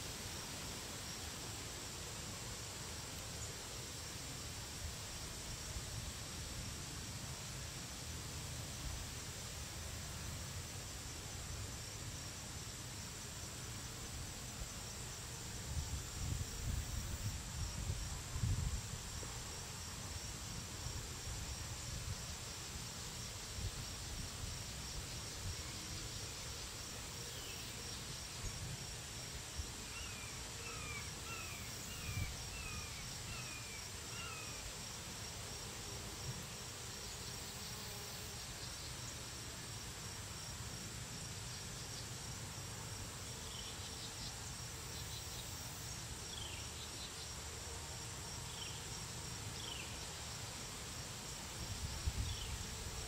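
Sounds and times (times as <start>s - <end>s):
insects trilling: 8.7s - 53.0s.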